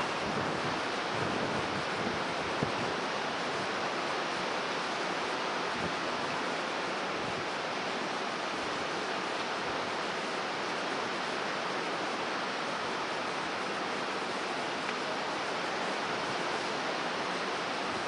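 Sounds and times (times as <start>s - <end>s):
strong wind: 0.0s - 18.0s.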